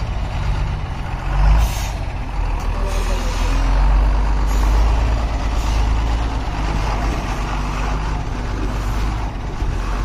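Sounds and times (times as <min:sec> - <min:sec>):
diesel truck engine under load: 0:00.0 - 0:10.0
truck rattling over rough road: 0:00.0 - 0:10.0.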